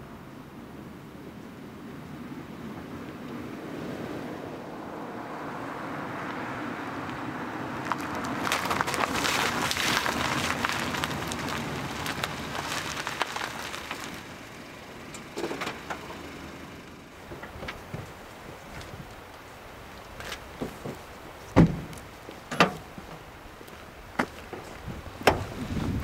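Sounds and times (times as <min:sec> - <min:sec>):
car tyres crunching on asphalt: 0:02.1 - 0:26.0.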